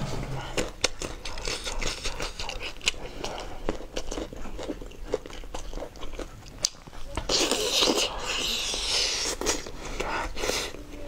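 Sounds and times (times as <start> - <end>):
wet chewing clicks and crunches: 0.5 - 10.7.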